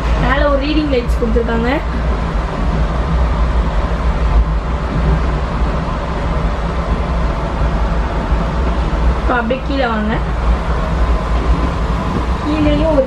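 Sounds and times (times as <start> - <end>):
low hum: 0.0 - 13.0
train compartment rumble and hiss: 0.0 - 13.0.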